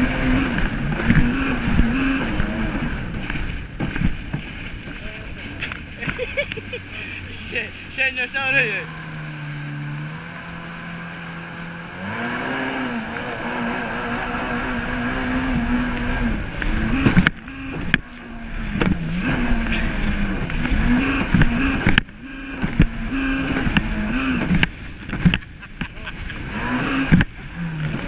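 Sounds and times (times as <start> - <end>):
hull slapping waves: 0.0 - 28.0
jet ski engine revving: 0.0 - 28.0
water spray rushing: 0.0 - 28.0.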